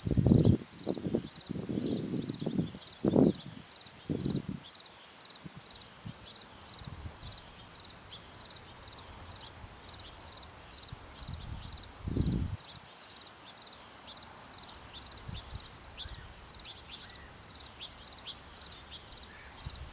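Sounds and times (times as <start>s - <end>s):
high-pitched insect chorus: 0.0s - 19.9s.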